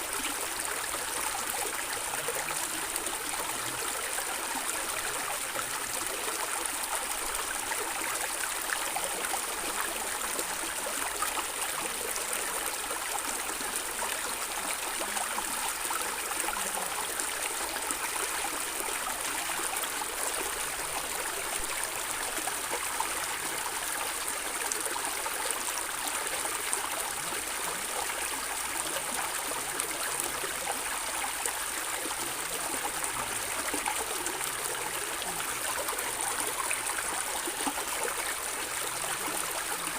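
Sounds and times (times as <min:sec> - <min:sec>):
stream of water gurgling: 0:00.0 - 0:39.9.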